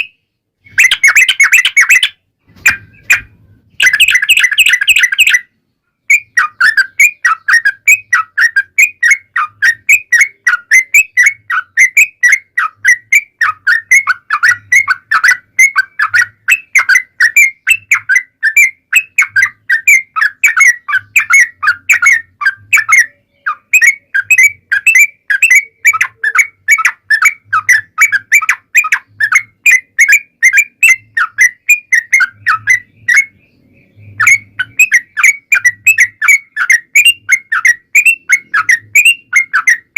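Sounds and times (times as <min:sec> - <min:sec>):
bird singing quick chirps: 0:00.0 - 0:39.9.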